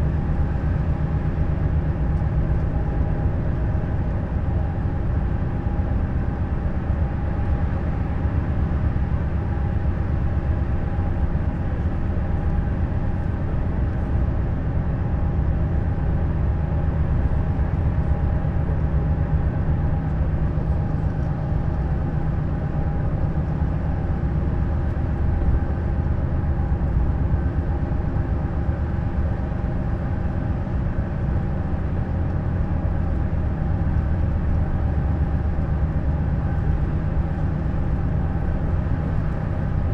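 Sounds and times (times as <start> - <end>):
coach engine drone: 0.0 - 39.9
road rumble: 0.0 - 39.9.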